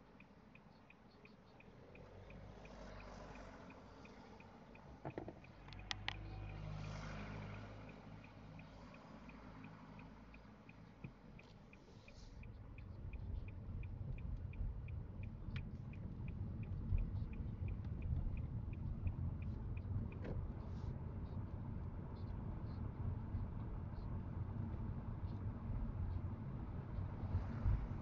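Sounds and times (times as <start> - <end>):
car engine and road rumble: 0.0 - 28.0
turn signal ticking: 0.0 - 28.0.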